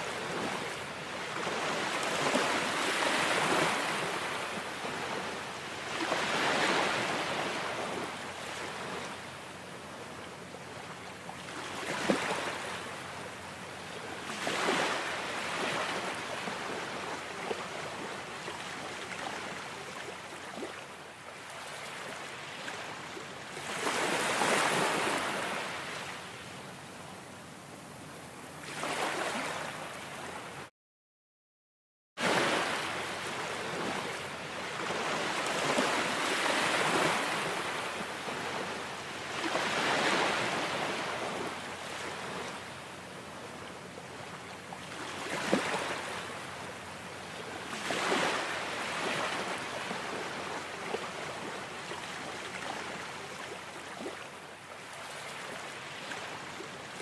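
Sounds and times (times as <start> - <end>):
ocean waves washing on shore: 0.0 - 30.7, 32.2 - 57.0.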